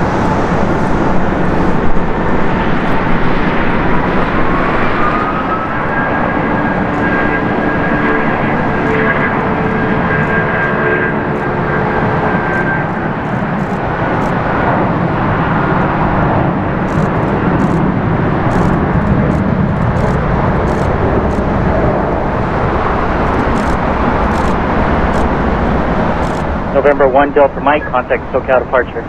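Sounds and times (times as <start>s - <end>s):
jet engine rumble: 0.0s - 29.0s
jet engine whine: 0.0s - 29.0s.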